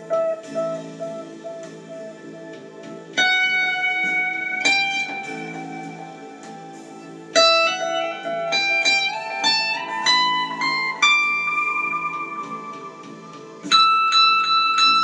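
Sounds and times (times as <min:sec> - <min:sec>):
electric guitar notes: 0:00.0 - 0:15.0.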